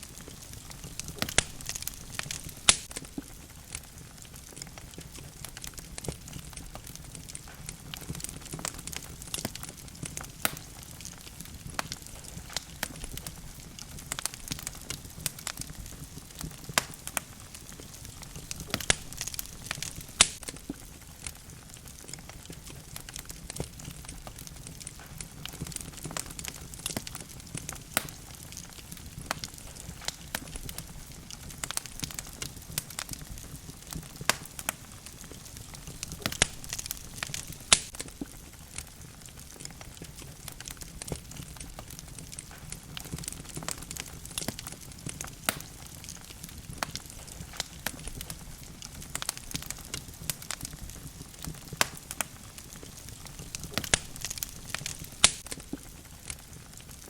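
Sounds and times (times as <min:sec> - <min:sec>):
logs crackling and popping: 0:00.0 - 0:57.0
low rumble of flame: 0:00.0 - 0:57.0.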